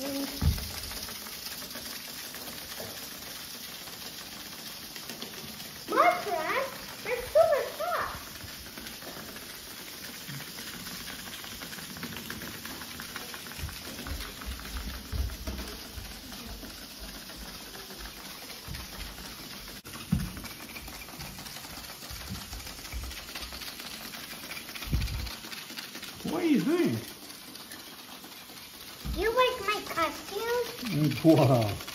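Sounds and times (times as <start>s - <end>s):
toy robots skittering on wood floor: 0.0s - 31.9s.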